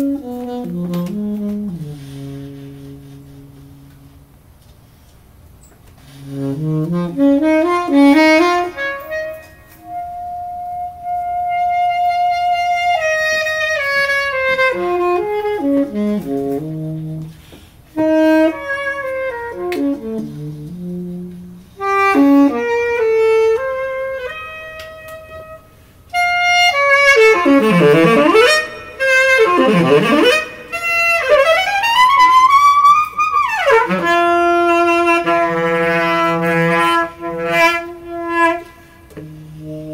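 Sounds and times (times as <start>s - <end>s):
saxophones playing together: 0.0s - 39.9s.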